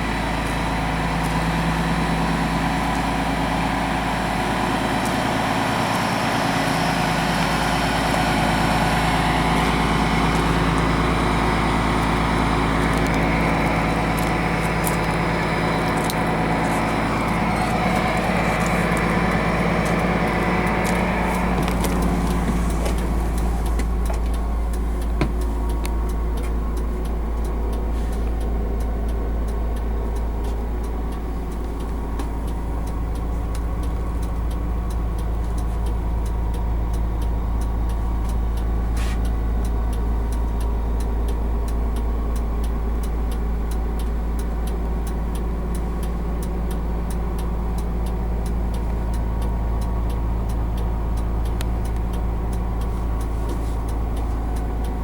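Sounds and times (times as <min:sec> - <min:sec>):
bus diesel engine idling: 0:00.0 - 0:55.0
faint regular ticking: 0:00.1 - 0:55.0.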